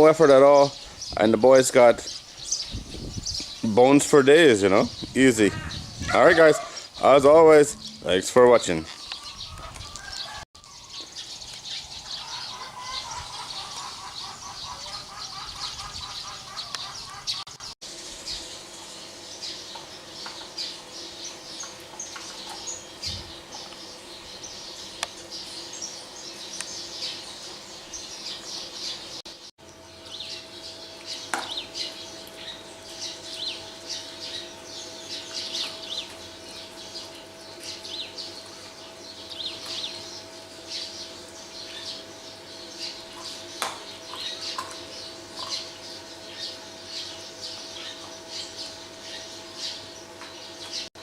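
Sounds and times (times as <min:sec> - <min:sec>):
birds chirping and twittering: 0:00.0 - 0:51.0.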